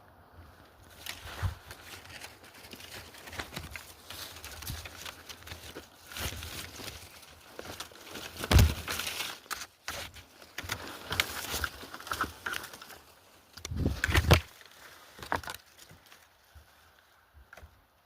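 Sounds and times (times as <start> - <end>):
rustling and crackling: 0.4 - 17.8.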